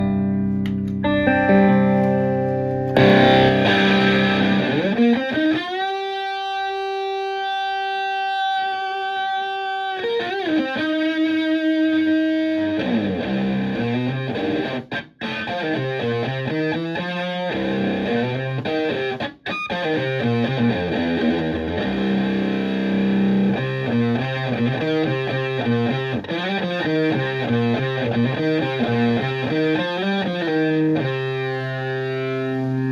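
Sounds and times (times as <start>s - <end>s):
fuzzed electric guitar: 0.0s - 32.9s.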